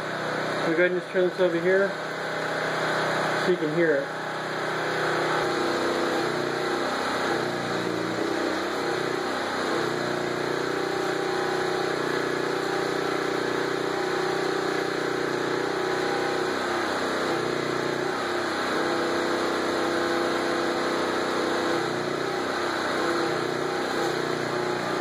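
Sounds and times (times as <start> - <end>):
generator engine running: 0.0 - 25.0.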